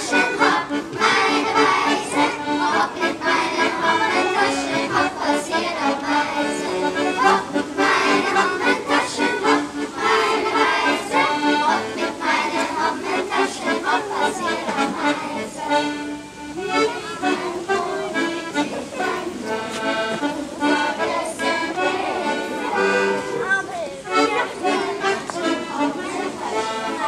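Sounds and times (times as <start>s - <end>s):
klezmer band playing: 0.0s - 27.0s.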